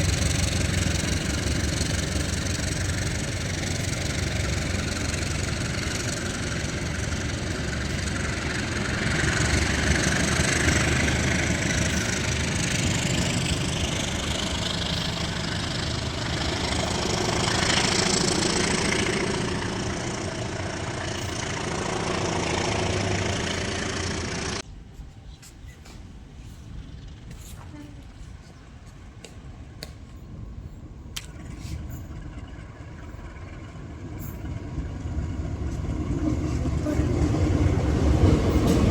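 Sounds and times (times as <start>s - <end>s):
diesel train engine hum: 0.0s - 38.9s.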